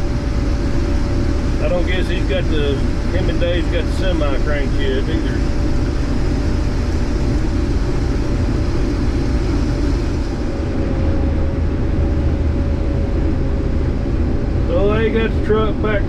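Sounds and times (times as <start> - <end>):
combine engine and machinery drone: 0.0 - 16.0
faint steady whine: 0.0 - 16.0.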